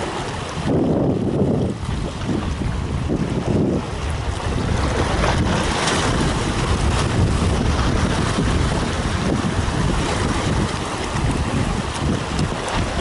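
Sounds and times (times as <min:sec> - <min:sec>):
waves splashing over rocks: 0:00.0 - 0:13.0
wind buffeting the microphone: 0:00.0 - 0:13.0.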